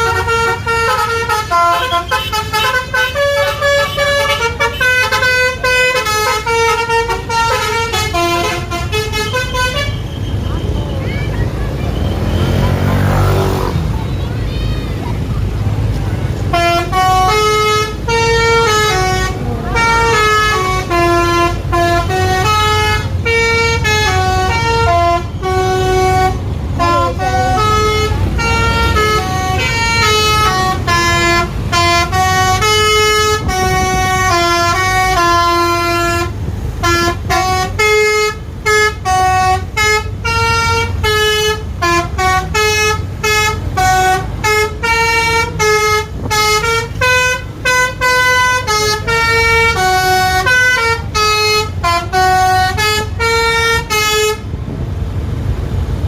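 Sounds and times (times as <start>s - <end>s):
musical bus horn melody: 0.0s - 10.2s, 16.3s - 54.8s
low engine rumble: 0.0s - 56.0s.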